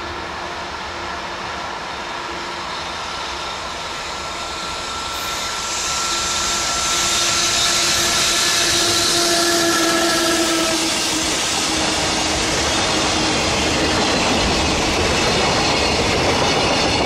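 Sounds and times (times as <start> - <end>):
freight train running noise: 0.0 - 17.0
locomotive hum: 0.0 - 17.0.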